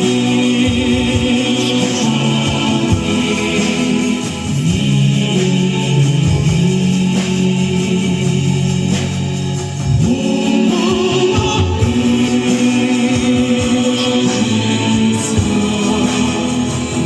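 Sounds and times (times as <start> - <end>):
live concert music sustained chords: 0.0 - 17.0
steady bass: 0.0 - 17.0.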